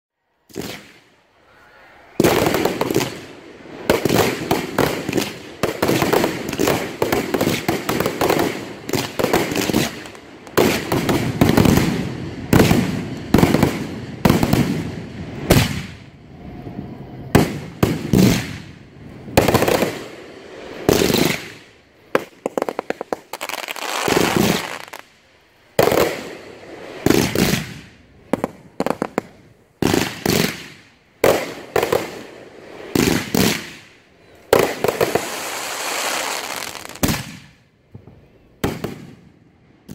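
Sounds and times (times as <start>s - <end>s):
fireworks launches and bangs: 0.5s - 1.1s, 2.2s - 16.2s, 17.3s - 25.1s, 25.8s - 39.9s.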